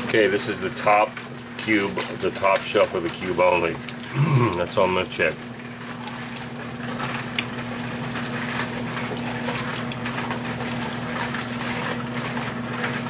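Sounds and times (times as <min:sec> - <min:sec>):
water sloshing in a pan: 0:00.0 - 0:13.0.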